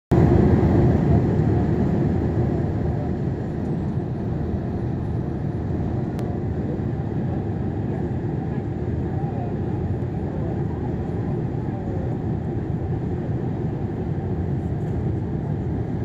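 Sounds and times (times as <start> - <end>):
jet engine rumble in cabin: 0.1 - 16.0.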